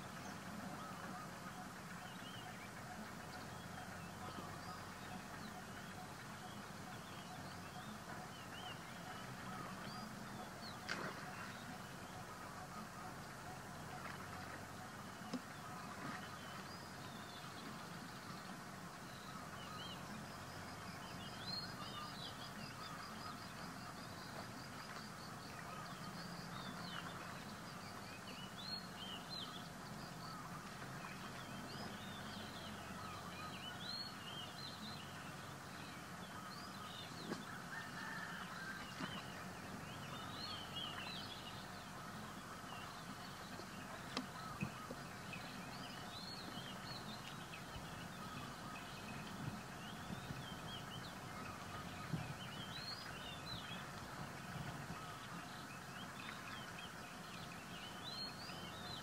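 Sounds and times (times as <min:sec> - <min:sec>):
birds chirping: 0:00.0 - 0:59.0
outdoor background hiss: 0:00.0 - 0:59.0.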